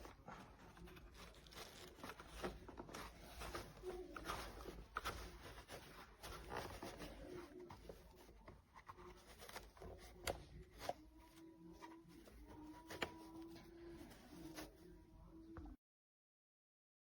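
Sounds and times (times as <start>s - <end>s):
objects rustling and scratching: 0.0s - 15.2s.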